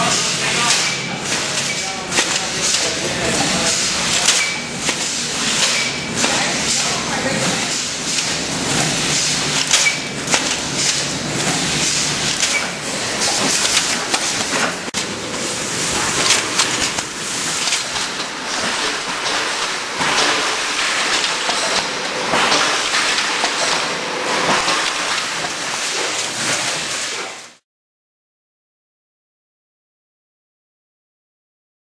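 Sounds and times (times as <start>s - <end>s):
machine clicks and knocks: 0.0s - 15.0s, 16.0s - 27.4s
packaging machine hiss: 0.0s - 27.6s.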